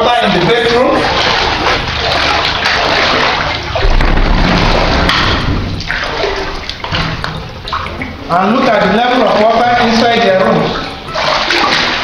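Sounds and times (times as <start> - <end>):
person wading through water: 0.0 - 12.0
water surging: 0.0 - 12.0.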